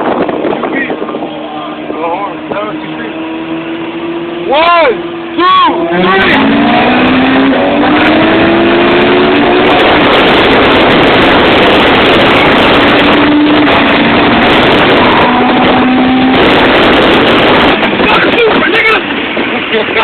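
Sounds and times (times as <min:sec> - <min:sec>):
car engines racing at full throttle: 0:00.0 - 0:20.0
wind rush on microphone: 0:00.0 - 0:20.0.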